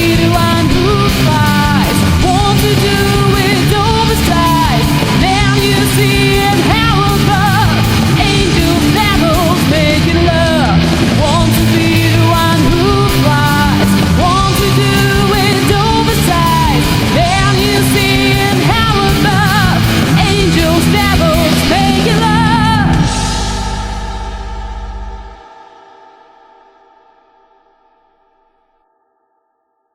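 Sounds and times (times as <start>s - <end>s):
alternative rock band music: 0.0s - 28.5s.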